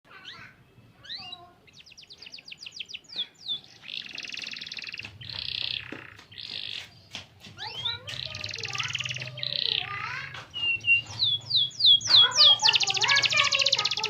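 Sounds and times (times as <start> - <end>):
canary singing: 0.1 - 14.0.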